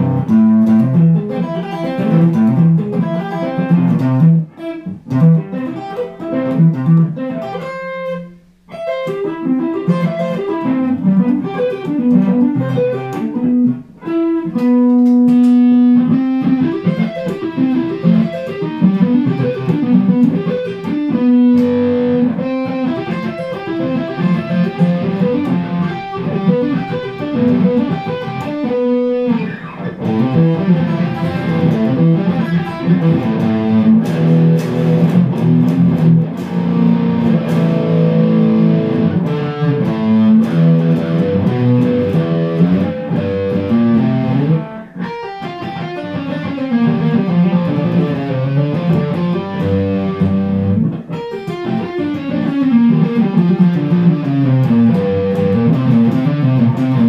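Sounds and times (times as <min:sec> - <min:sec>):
loud electric guitar riffs: 0:00.0 - 0:57.0.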